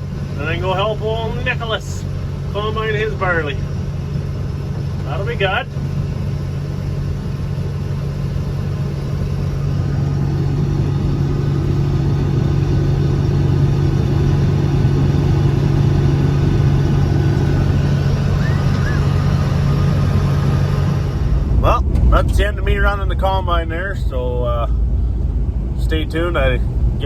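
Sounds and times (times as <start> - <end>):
combine harvester drone: 0.0 - 27.0.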